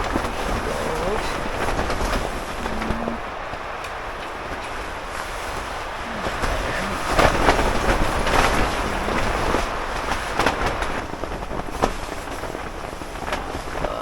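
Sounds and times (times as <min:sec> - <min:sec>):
strong wind gusting: 0:00.0 - 0:14.0
tent fabric snapping: 0:00.0 - 0:14.0.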